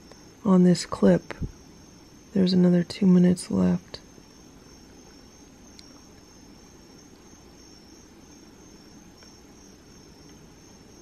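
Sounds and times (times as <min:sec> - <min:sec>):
crickets chirping: 0:00.0 - 0:11.0
faint hiss: 0:00.0 - 0:11.0.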